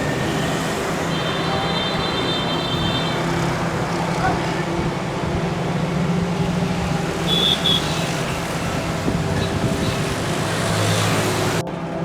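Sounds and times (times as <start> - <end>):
traffic engine hum and road noise: 0.0 - 12.0.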